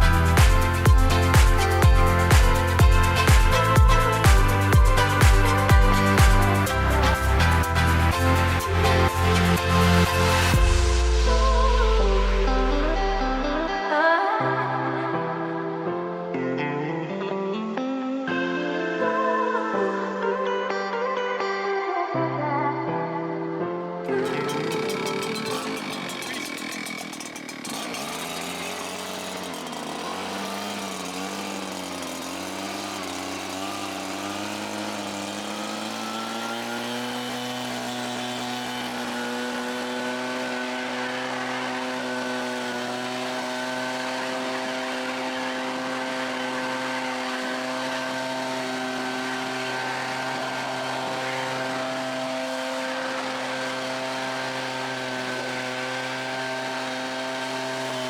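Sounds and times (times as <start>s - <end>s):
two-stroke power tool engine: 0.0s - 15.6s, 24.0s - 58.0s.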